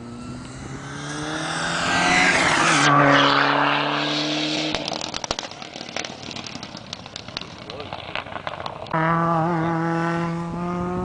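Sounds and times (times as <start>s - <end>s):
rally car engine passing: 0.0s - 11.0s
rapid exhaust crackling: 0.0s - 11.0s.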